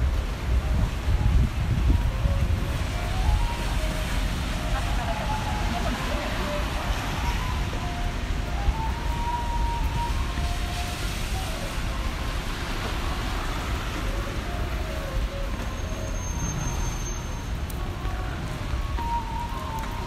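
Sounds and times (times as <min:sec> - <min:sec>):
traffic: 0:00.0 - 0:20.0
faint tune: 0:01.3 - 0:20.0.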